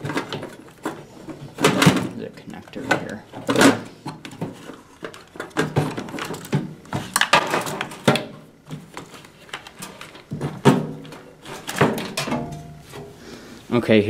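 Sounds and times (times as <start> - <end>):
parts clicking and rattling in metal: 0.0 - 13.1.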